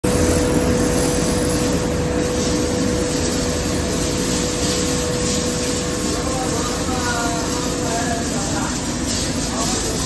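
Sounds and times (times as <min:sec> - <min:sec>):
machine and conveyor droning: 0:00.0 - 0:10.0.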